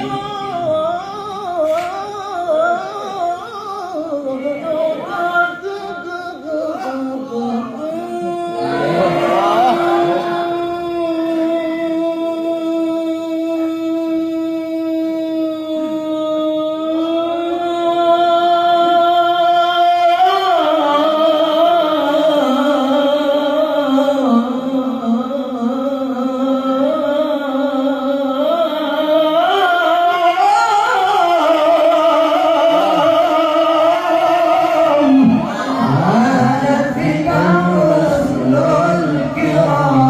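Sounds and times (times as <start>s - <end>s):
person reciting melodically: 0.0s - 40.0s.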